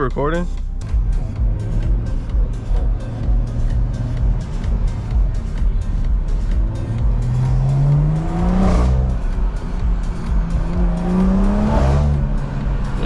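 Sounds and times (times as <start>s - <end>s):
car engine accelerating: 0.8s - 13.0s.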